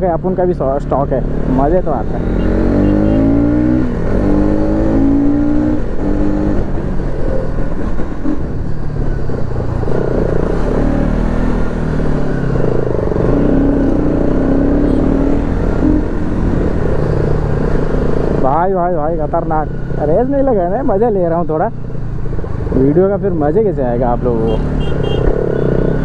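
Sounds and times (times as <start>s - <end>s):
motorcycle engine revving: 0.6s - 26.0s.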